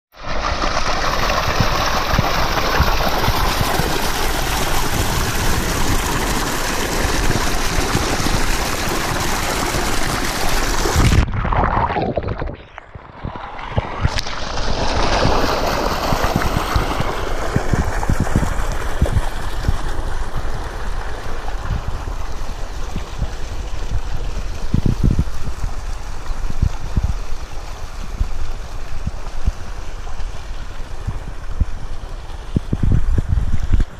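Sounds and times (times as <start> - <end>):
water gushing into pool: 0.1 - 33.9.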